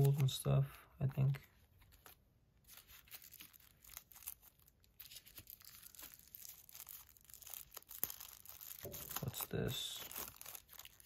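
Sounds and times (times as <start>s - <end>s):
plastic bag and tissue paper crinkling: 1.2s - 11.0s.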